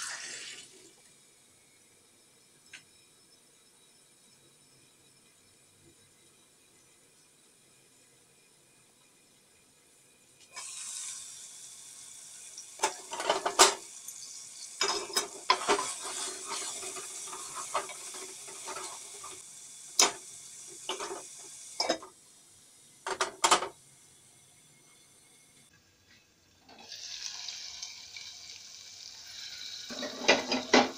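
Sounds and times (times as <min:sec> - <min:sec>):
meat sizzling in a pot: 0:00.0 - 0:25.7, 0:26.5 - 0:30.9.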